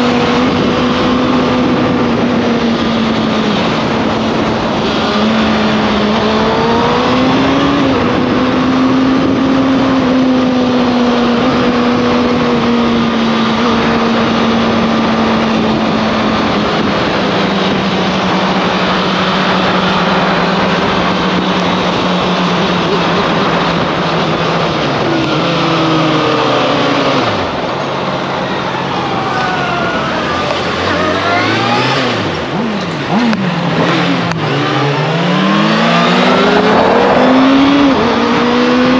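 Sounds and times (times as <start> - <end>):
heavy wind rush: 0.0 - 38.9
motorcycle engine running: 0.0 - 38.9.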